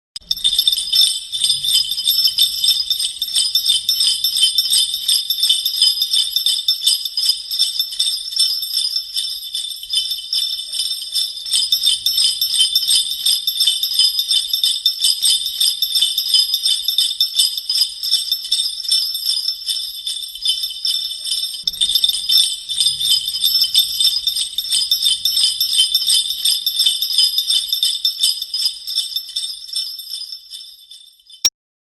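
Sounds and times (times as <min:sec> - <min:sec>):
sleigh bells jingling: 0:00.2 - 0:31.5.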